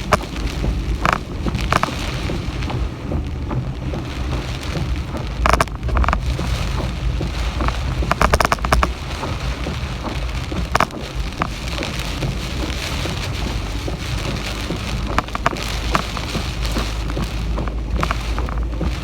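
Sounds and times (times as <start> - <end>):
heavy rain falling: 0.0 - 19.0
low rumble: 0.0 - 19.0
sharp taps and rattles: 0.0 - 19.0.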